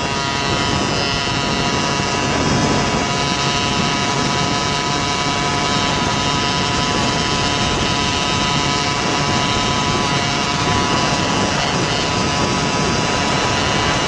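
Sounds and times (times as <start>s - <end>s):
two-stroke engine at high revs: 0.0s - 14.0s
wind rush on microphone: 0.0s - 14.0s.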